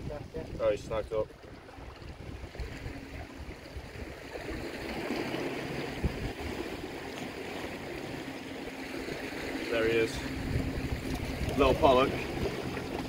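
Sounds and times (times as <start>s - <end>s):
sea washing against rocks: 0.0s - 13.0s.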